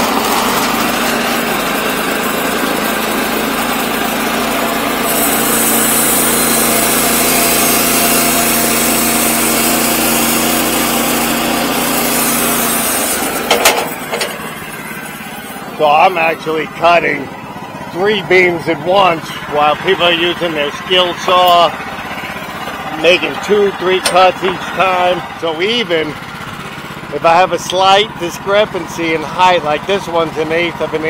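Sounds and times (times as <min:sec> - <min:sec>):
saw cutting timber: 0:00.0 - 0:31.0
sawmill engine running: 0:00.0 - 0:31.0.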